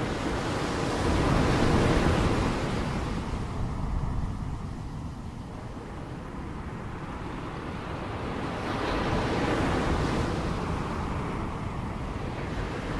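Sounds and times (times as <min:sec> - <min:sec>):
ocean surf: 0:00.0 - 0:12.9.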